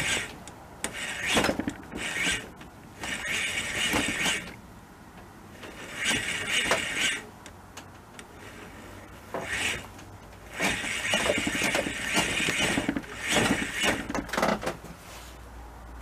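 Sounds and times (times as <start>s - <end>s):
motor gearing clicking and rattling: 0.0s - 14.8s.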